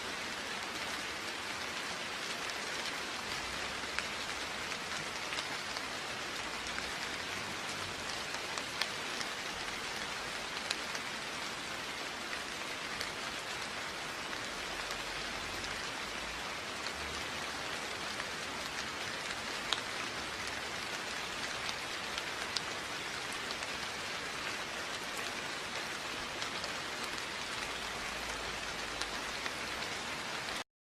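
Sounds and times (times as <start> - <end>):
steady rain falling: 0.0 - 30.6.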